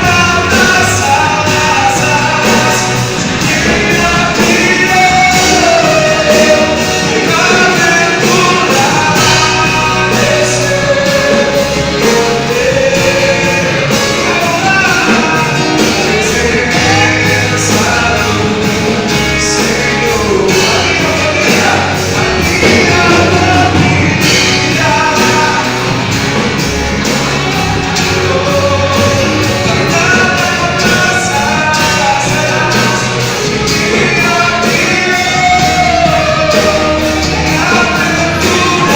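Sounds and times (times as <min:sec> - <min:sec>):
drums beating: 0:00.0 - 0:38.9
person singing: 0:00.0 - 0:38.9
worship band playing: 0:00.0 - 0:38.9.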